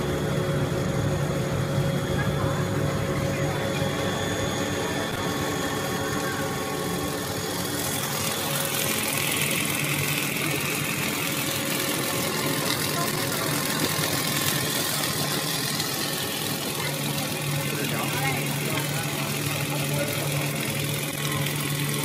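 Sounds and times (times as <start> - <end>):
machine line humming: 0.0 - 22.0.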